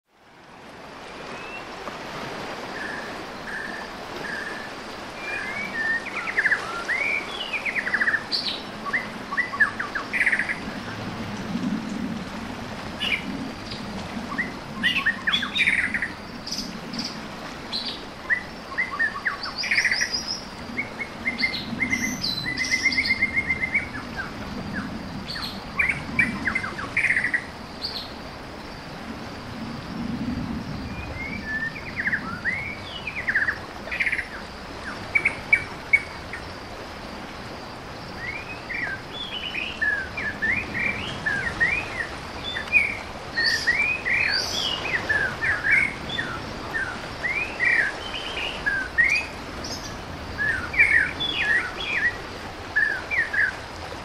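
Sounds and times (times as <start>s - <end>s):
birdsong chirps and trills: 2.7s - 11.0s, 13.0s - 28.2s, 30.8s - 36.6s, 38.1s - 53.6s.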